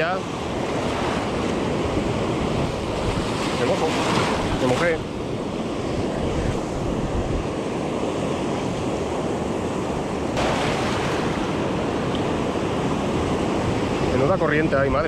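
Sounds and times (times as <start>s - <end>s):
surf washing and foaming: 0.0s - 15.0s
wind rumbling on microphone: 0.0s - 15.0s.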